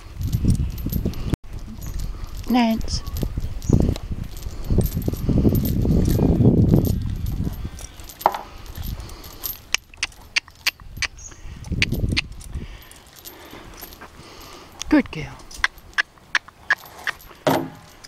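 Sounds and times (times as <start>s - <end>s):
low rustling rumble: 0.0s - 18.0s
metal chains clinking and jingling: 0.0s - 18.0s.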